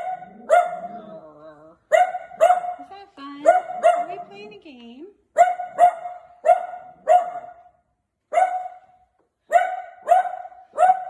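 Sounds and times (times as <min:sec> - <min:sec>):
dog barking: 0:00.0 - 0:01.2, 0:01.9 - 0:04.3, 0:05.4 - 0:11.0.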